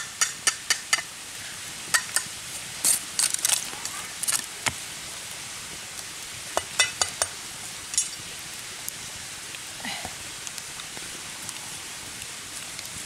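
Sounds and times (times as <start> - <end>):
rain-like hiss: 0.0 - 13.0.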